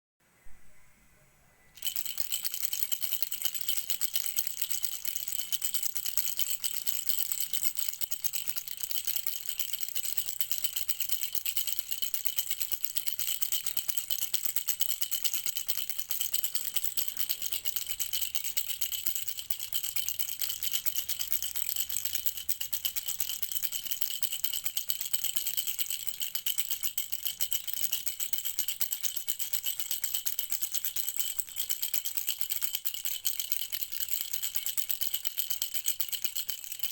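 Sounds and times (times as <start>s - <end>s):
baby rattle shaken rapidly: 1.8s - 36.9s.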